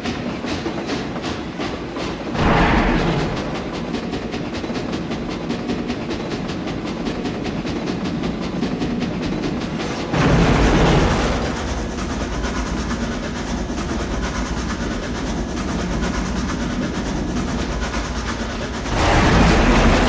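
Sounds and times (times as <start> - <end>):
steam train clattering on rails: 0.0 - 20.0.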